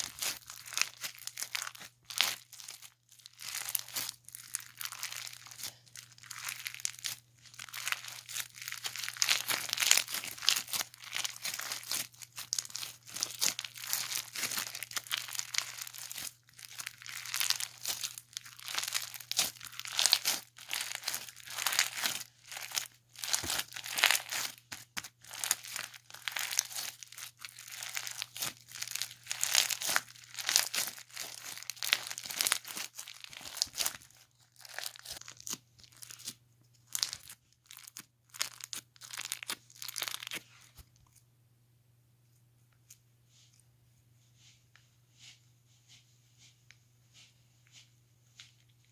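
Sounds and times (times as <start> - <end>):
slime squished by hand: 0.0 - 40.8.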